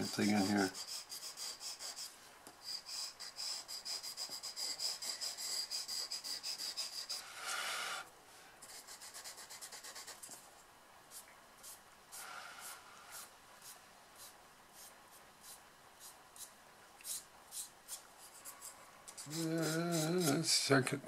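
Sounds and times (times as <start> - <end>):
pastel scrubbing on paper: 0.0 - 7.3, 8.7 - 10.3, 11.6 - 20.5.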